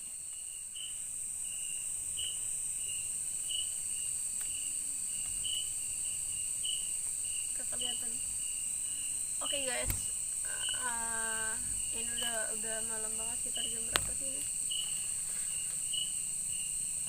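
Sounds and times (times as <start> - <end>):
high-pitched insect drone: 0.0 - 17.0
insect chirp: 0.0 - 17.0.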